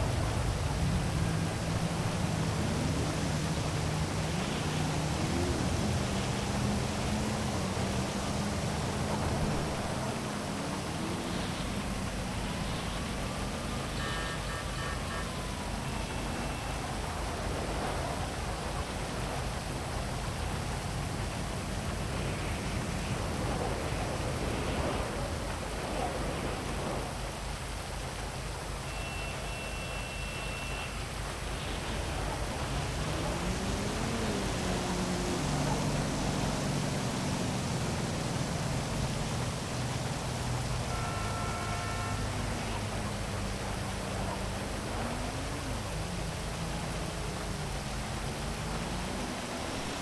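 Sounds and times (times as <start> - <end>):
vehicle engine humming: 0.0 - 28.8, 30.9 - 50.0
heavy rain falling: 0.0 - 50.0.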